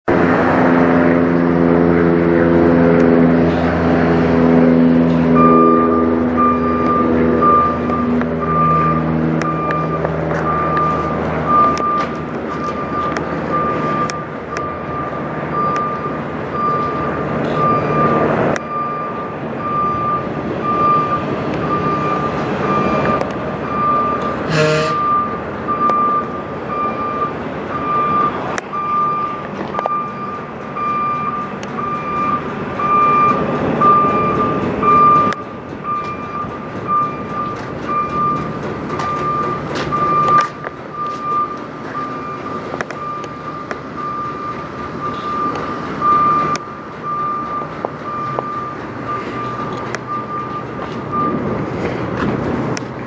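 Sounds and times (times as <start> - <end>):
truck engines running: 0.0 - 53.0
vehicle backup alarm beeping: 5.3 - 52.3.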